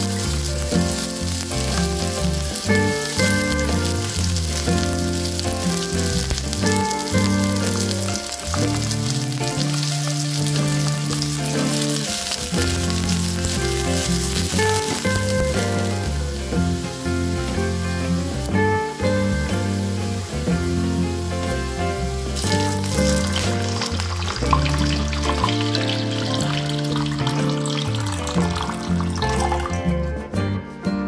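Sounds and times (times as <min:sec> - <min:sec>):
shallots sizzling in oil: 0:00.0 - 0:30.1
background music: 0:00.0 - 0:31.0.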